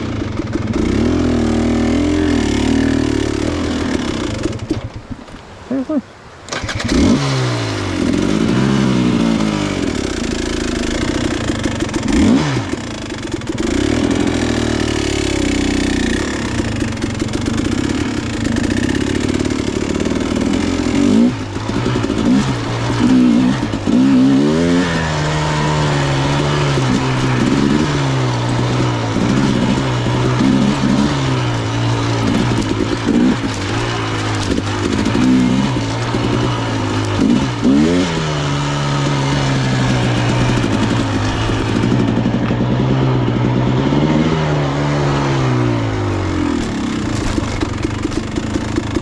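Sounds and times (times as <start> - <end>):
dirt bike engine revving: 0.0 - 4.9, 5.7 - 49.0.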